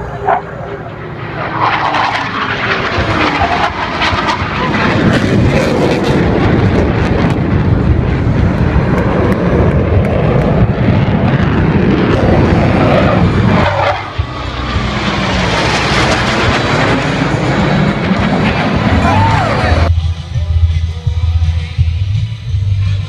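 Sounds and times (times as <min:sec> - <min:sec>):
jets flying past: 0:00.0 - 0:19.9.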